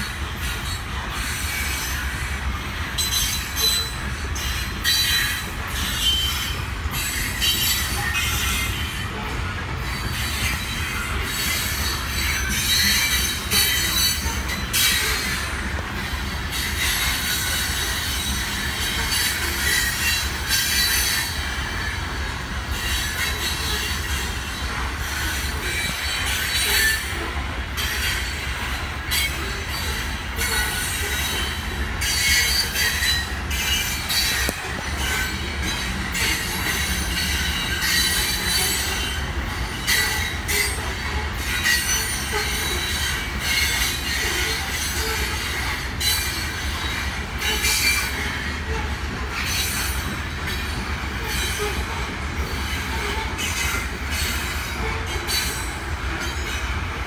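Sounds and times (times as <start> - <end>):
freight train rumble: 0.0 - 57.0
steel wheels squealing: 0.0 - 57.0.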